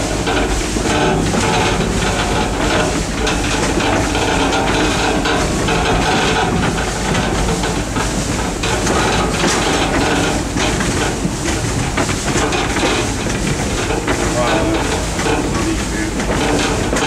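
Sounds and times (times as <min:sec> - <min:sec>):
train wheels clattering on rails: 0:00.0 - 0:17.0.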